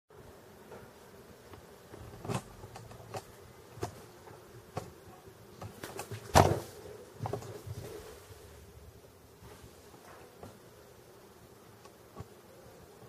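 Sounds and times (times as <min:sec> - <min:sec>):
faint steady buzz: 0:00.1 - 0:13.0.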